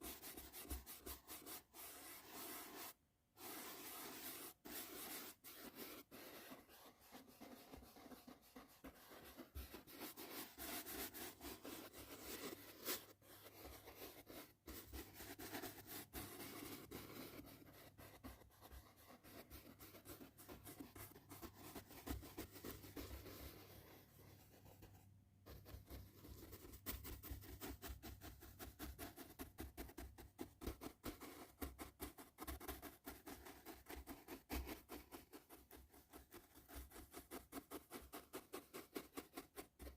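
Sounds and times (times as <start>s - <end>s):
scratchy brush strokes: 0.0s - 39.9s.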